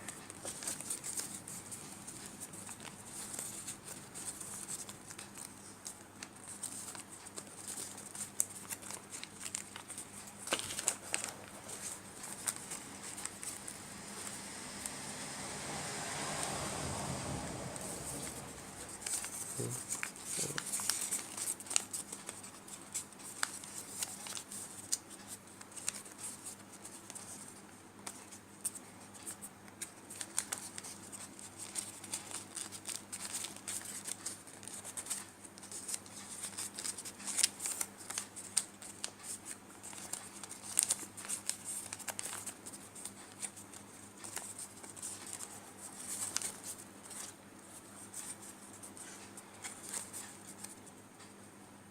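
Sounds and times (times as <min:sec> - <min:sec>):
paper rustling and crackling: 0:00.0 - 0:14.9, 0:17.8 - 0:51.0
faint steady hum: 0:00.0 - 0:51.9.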